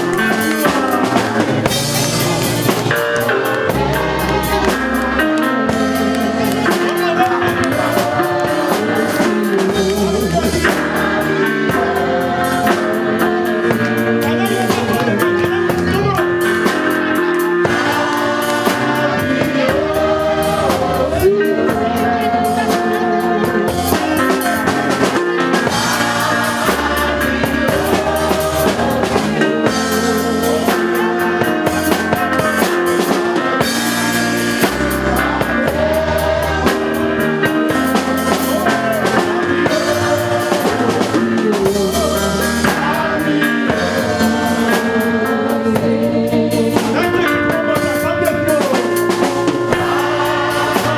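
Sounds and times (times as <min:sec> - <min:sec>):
bass guitar: 0:00.0 - 0:50.9
drum kit beat: 0:00.0 - 0:50.9
keyboard chords: 0:00.0 - 0:50.9
person singing: 0:00.0 - 0:50.9.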